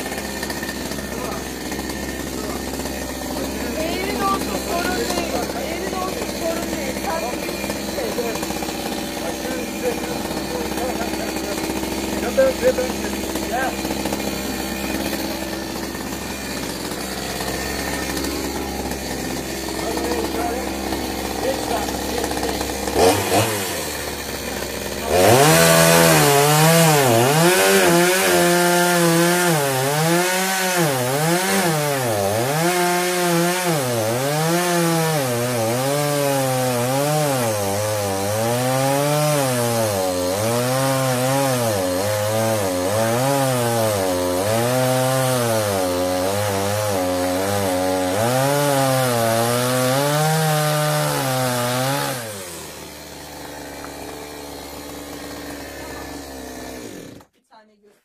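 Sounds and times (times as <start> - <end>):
chainsaw cutting log: 0.0 - 57.8.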